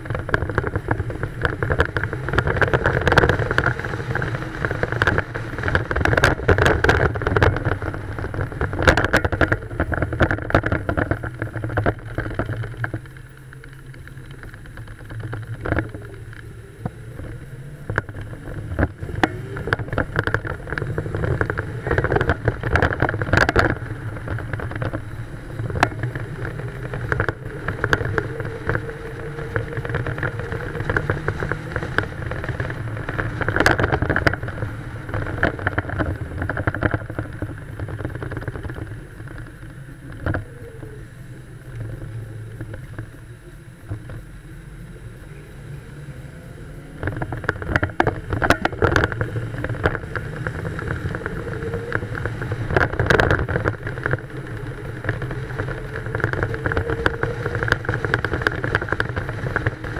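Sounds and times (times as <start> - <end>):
engine and tyre drone: 0.0 - 59.9
wind buffeting microphone: 0.0 - 59.9.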